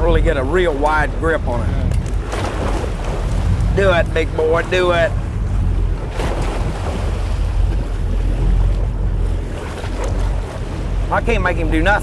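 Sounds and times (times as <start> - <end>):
boat engine rumble: 0.0 - 12.0
water rushing: 0.0 - 12.0
wind buffeting microphone: 0.0 - 12.0.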